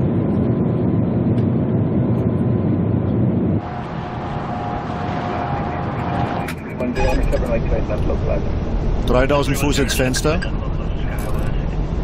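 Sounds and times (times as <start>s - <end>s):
steady high whine: 0.0s - 12.0s.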